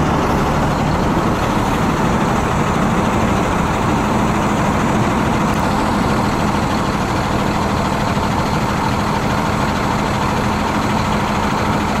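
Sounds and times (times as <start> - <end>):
city traffic engine hum: 0.0 - 12.0.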